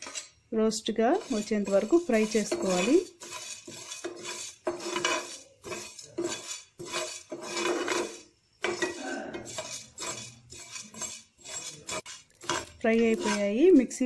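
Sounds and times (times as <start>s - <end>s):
spoon scraping seeds in a pan: 0.0s - 14.0s.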